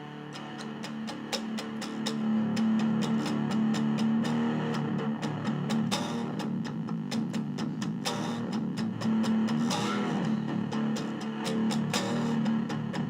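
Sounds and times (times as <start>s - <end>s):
distorted electric guitar low note: 0.0s - 13.0s.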